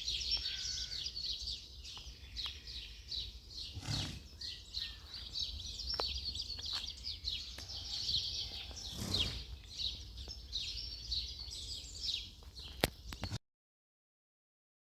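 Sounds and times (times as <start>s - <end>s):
songbirds chirping: 0.0s - 13.4s.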